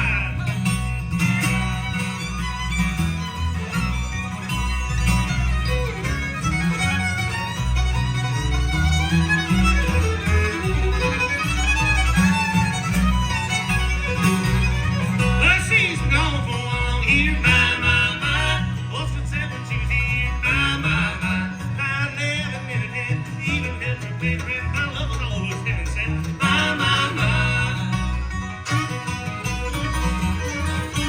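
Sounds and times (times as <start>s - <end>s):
bluegrass band playing: 0.0s - 31.0s
fiddle: 0.0s - 31.0s.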